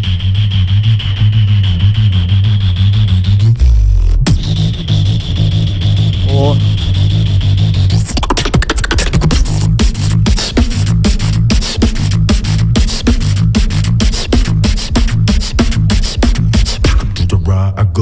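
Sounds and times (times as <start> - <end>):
beatboxing snare and click hits: 0.0 - 17.4
beatboxed deep bass pattern: 0.0 - 18.0.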